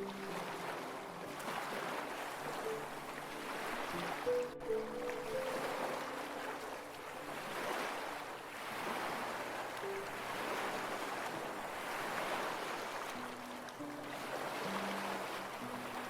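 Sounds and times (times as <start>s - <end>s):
ocean waves washing: 0.0s - 16.0s
soft music tones: 0.0s - 16.0s.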